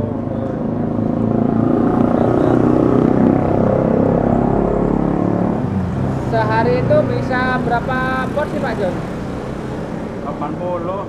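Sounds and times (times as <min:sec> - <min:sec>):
deep rumble: 0:00.0 - 0:10.4
vehicle engine running: 0:00.0 - 0:11.0.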